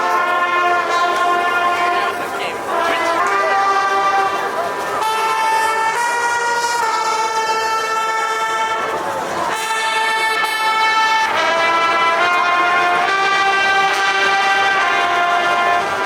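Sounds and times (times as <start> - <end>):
brass band playing chords: 0.0 - 16.0.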